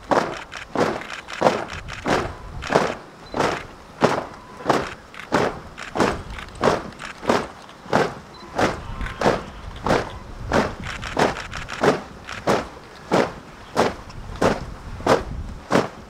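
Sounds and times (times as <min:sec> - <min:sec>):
marching boots striking ground: 0:00.0 - 0:16.0.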